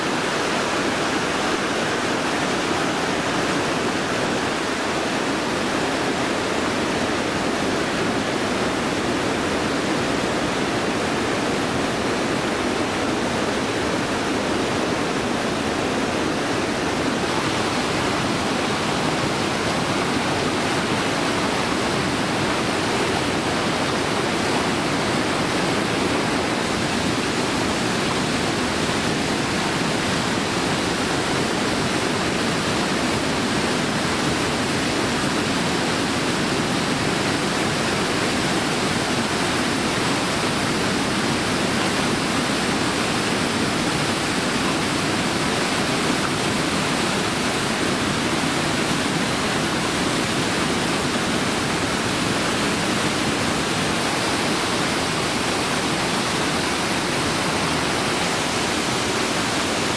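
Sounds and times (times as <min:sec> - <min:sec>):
water rushing over waterfall: 0:00.0 - 0:59.9.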